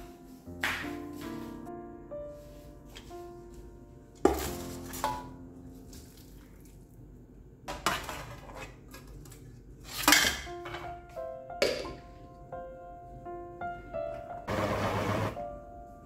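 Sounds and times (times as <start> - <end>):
soft piano music: 0.0 - 7.7, 10.4 - 16.0.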